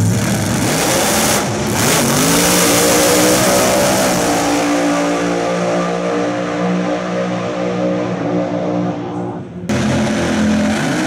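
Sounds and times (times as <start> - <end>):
drag car engine accelerating: 0.0 - 11.0.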